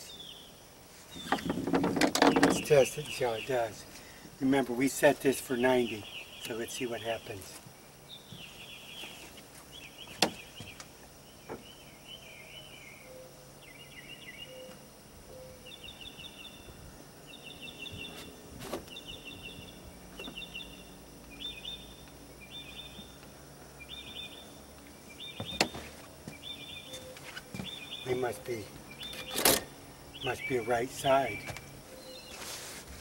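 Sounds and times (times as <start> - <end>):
trilled bird calls: 0.0 - 4.2, 8.1 - 32.5
outdoor background noise: 0.0 - 33.0.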